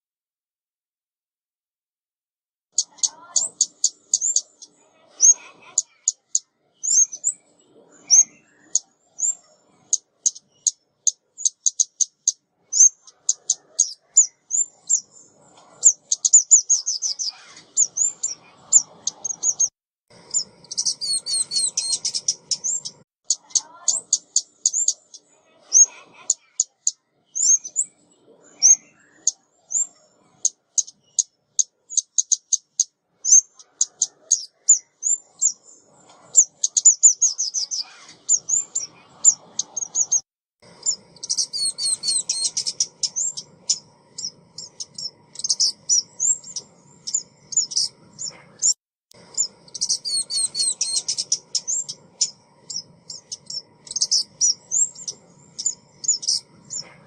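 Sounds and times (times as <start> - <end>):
bird chirping: 2.7 - 57.0.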